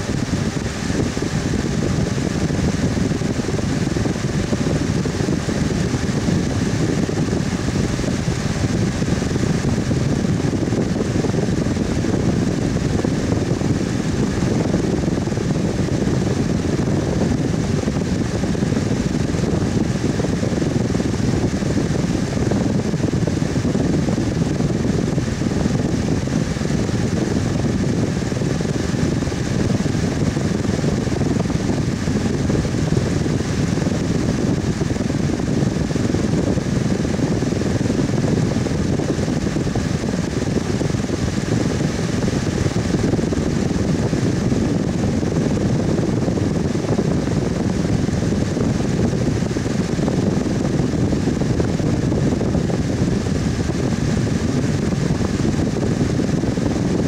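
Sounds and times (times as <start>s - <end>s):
electric fan air rushing: 0.0s - 57.0s
fan motor hum: 0.0s - 57.0s.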